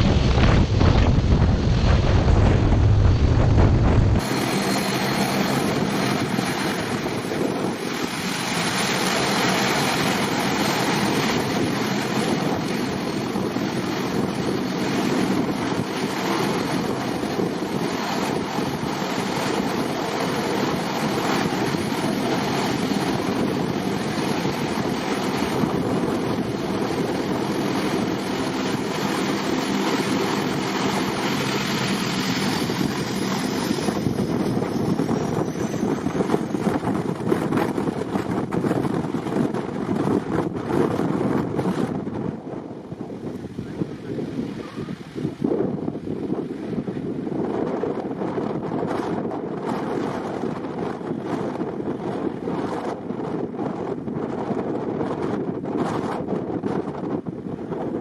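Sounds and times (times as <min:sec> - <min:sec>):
jet engines roaring: 0:00.0 - 0:58.0
wind buffeting microphone: 0:00.0 - 0:58.0.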